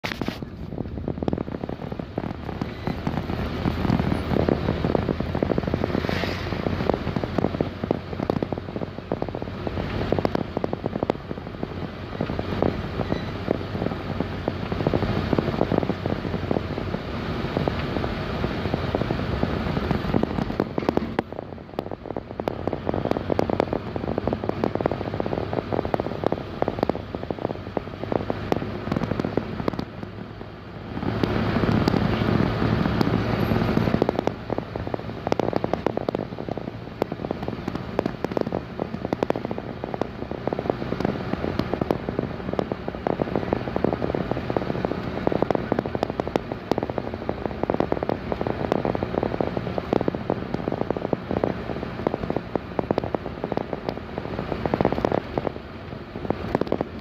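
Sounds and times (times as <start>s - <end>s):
rapid crackling rattle: 0.0s - 57.0s
vehicle engine hum: 0.0s - 57.0s.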